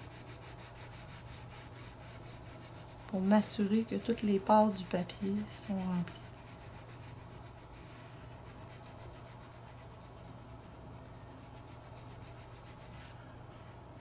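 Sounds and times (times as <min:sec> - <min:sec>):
pencil scratching on paper: 0:00.0 - 0:13.1.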